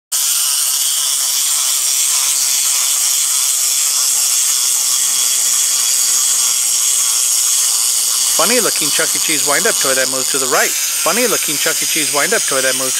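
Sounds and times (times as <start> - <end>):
wind-up toy motor whirring: 0.1 - 12.9.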